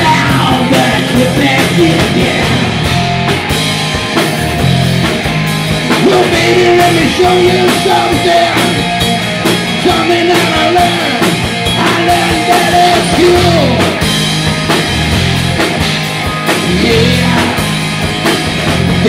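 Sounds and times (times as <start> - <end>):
bending electric guitar line: 0.0 - 19.0
rock band playing: 0.0 - 19.0.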